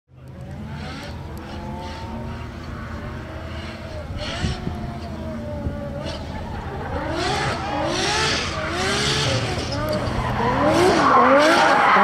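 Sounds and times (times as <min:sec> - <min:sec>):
car engine revving high: 0:00.3 - 0:12.0.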